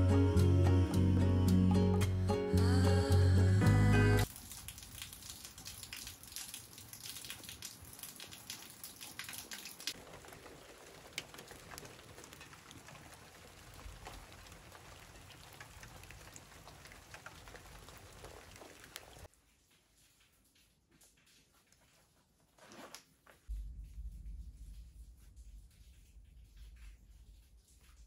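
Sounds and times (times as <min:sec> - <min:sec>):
rain pattering on hard surfaces: 0:04.2 - 0:28.0.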